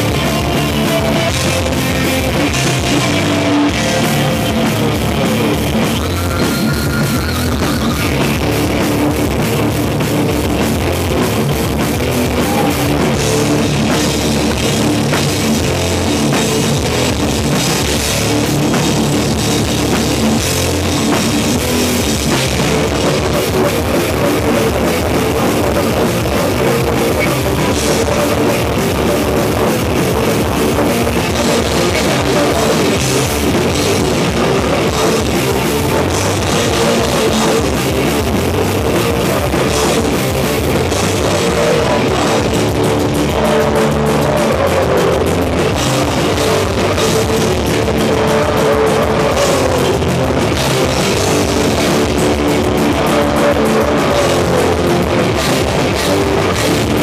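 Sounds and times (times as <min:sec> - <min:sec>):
heavy rock band playing: 0:00.0 - 0:57.0.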